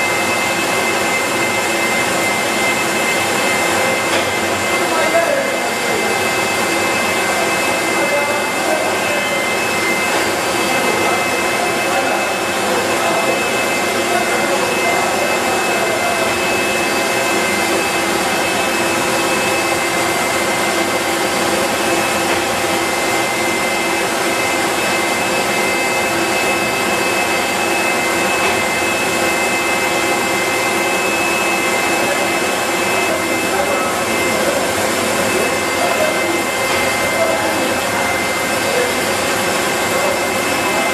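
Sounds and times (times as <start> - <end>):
constant high whines: 0.0 - 40.9
factory machinery rushing: 0.0 - 40.9.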